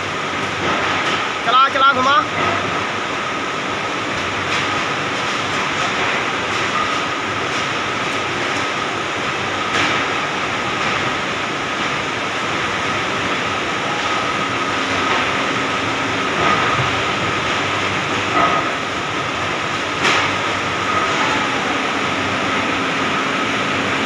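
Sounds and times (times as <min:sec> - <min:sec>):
workshop machinery noise: 0:00.0 - 0:24.0.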